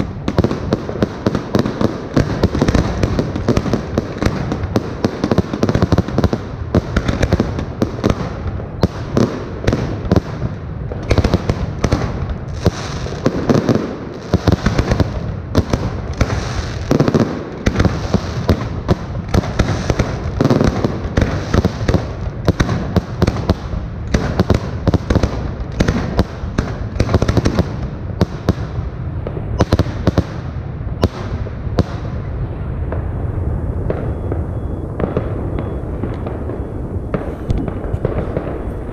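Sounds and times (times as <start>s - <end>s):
fireworks bursting with bangs: 0.0s - 38.9s
fireworks crackle: 0.0s - 38.9s.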